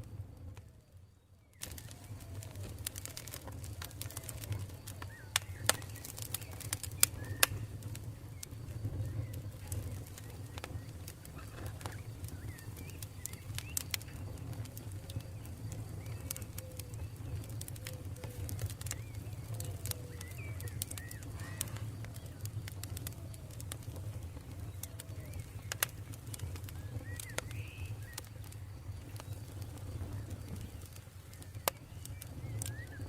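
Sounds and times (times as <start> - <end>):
campfire crackling: 0.0 - 33.0
birds calling: 1.6 - 33.0.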